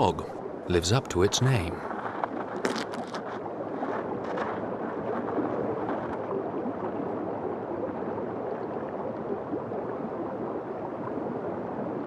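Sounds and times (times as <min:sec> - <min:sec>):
stream water gurgling: 0:00.0 - 0:12.0.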